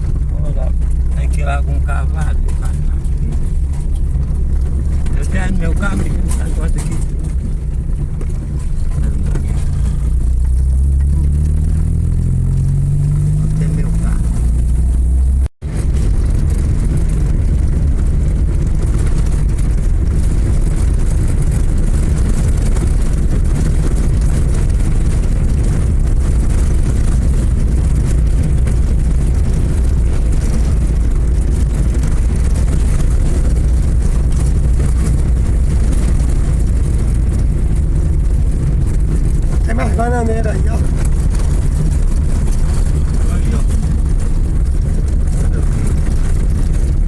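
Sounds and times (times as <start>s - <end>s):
vehicle engine and road rumble: 0.0s - 47.0s.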